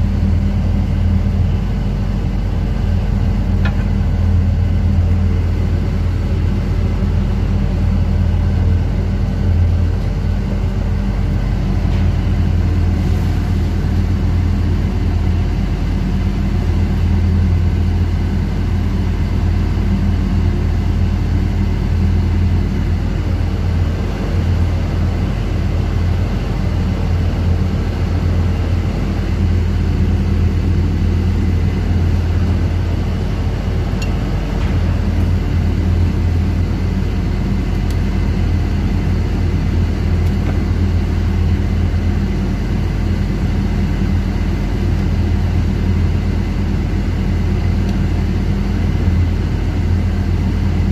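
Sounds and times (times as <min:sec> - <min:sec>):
low machinery drone: 0:00.0 - 0:50.9.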